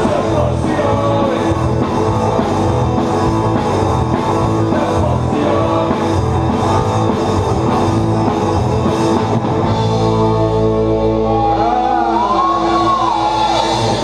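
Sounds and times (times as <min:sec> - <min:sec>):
bending guitar melody line: 0:00.0 - 0:14.0
live rock band playing: 0:00.0 - 0:14.0.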